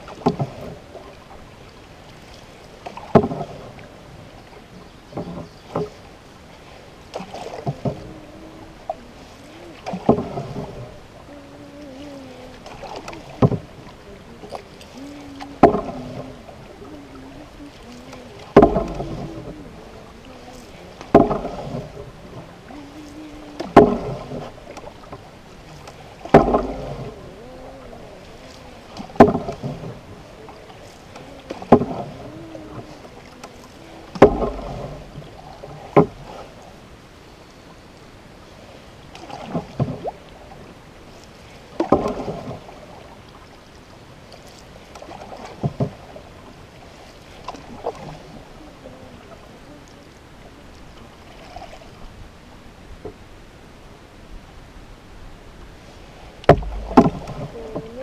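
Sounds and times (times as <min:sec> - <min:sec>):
canoe paddle splashing water: 0:00.0 - 0:58.0.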